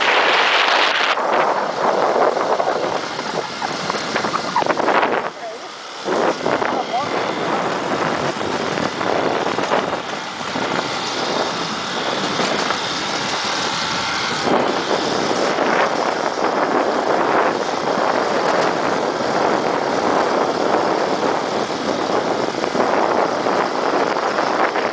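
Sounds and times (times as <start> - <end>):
motorcycle engine running: 0.0 - 24.9
wind rushing on microphone: 0.0 - 24.9.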